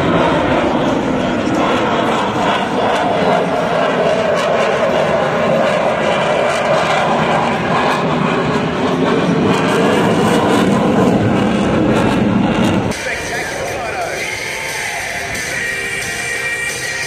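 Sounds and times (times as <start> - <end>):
fighter jet flying overhead: 0.0 - 17.0.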